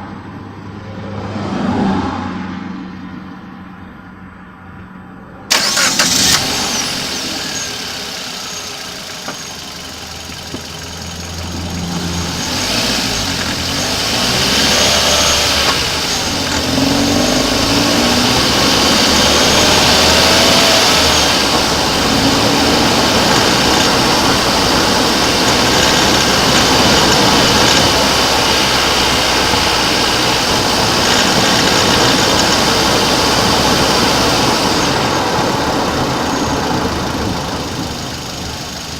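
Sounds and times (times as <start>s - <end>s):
car engine running: 5.5s - 38.9s.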